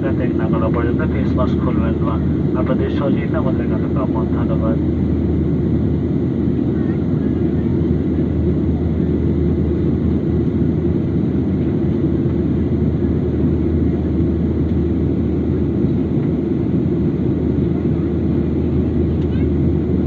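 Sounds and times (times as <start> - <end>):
constant cabin hum: 0.0 - 20.0
engine and airflow rumble: 0.0 - 20.0.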